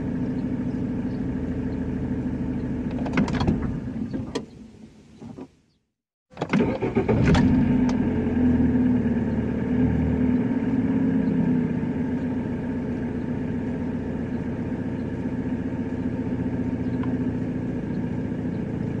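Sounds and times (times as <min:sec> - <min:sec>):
engine-like running hum: 0:00.0 - 0:05.1, 0:06.4 - 0:19.0.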